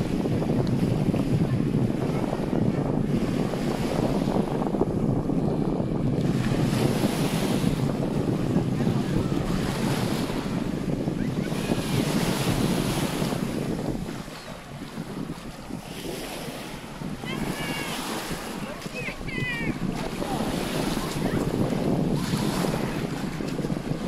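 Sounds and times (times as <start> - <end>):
small waves washing on sand: 0.0 - 24.0
wind buffeting microphone: 0.0 - 24.0.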